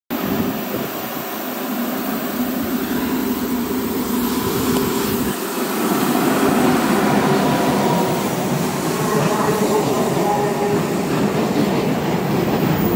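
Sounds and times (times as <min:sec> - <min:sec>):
freight train rumbling past: 0:00.1 - 0:12.9.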